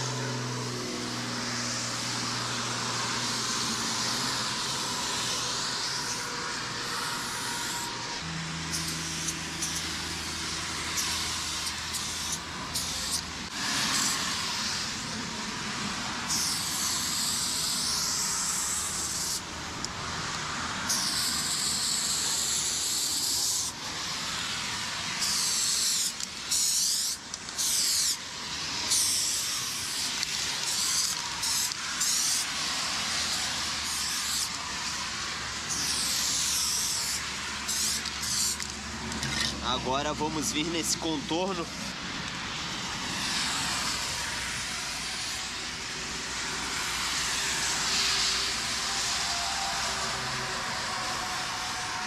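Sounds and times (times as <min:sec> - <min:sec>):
spray paint can hissing: 0:01.6 - 0:39.8, 0:41.6 - 0:52.0.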